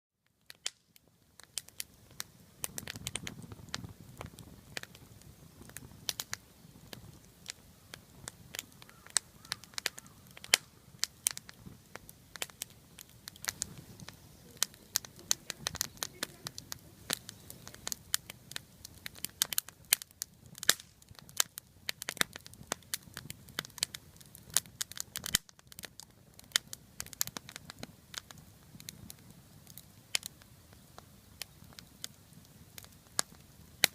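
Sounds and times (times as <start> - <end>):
wood fire crackling: 0.2 - 33.9
low rush of flame: 0.4 - 33.9.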